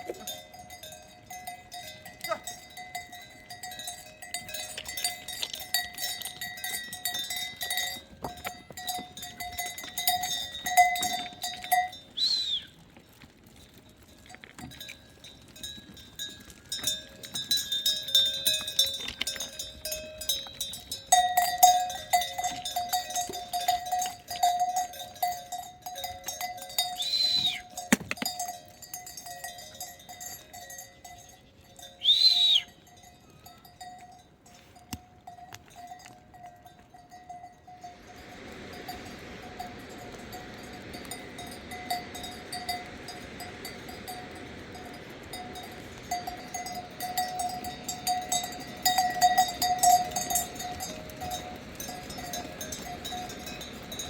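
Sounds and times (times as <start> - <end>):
livestock bells clinking: 0.0 - 54.0.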